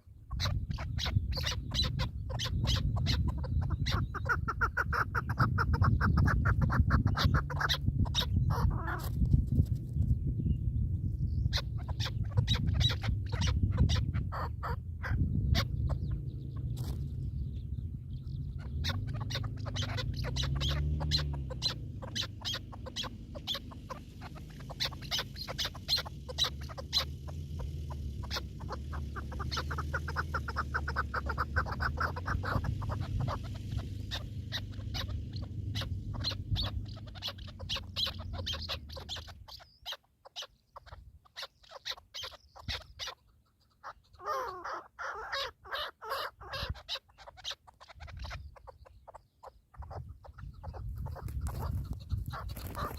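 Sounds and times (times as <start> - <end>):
steady low rumble: 0.0 - 39.8, 49.8 - 52.9
bird chirping calls: 0.0 - 52.9.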